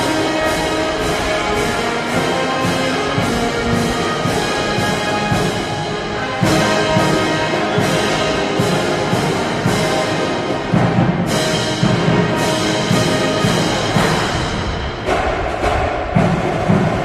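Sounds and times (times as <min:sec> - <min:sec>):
heavy drum beats: 0:00.0 - 0:17.0
military band brass: 0:00.0 - 0:17.0.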